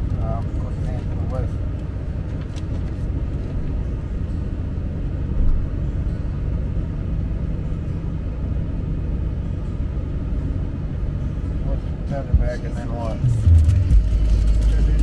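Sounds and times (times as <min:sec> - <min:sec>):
truck rumble inside cab: 0:00.0 - 0:15.0.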